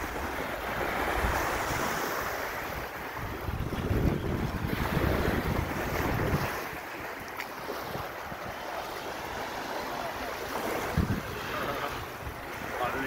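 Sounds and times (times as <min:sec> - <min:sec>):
wind buffeting microphone: 0:00.0 - 0:09.7, 0:10.4 - 0:13.0
small waves washing ashore: 0:00.0 - 0:13.0.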